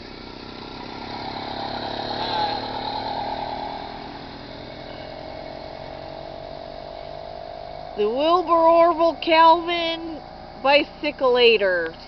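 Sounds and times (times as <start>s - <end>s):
motorized bicycle engine passing: 0.0s - 11.2s.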